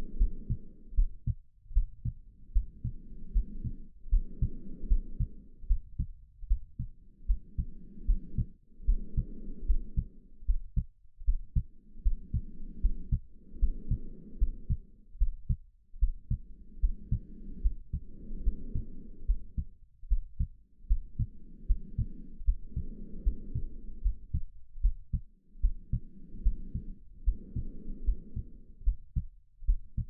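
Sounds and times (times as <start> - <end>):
muffled heartbeat thumps: 0.0 - 30.0
slow breathing: 0.0 - 30.0.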